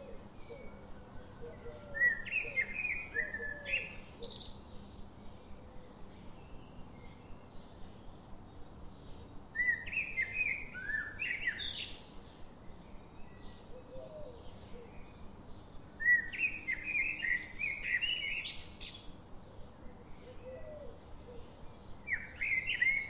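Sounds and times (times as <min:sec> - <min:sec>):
faint chirps of other birds: 0:00.0 - 0:23.0
songbird singing: 0:00.0 - 0:23.0.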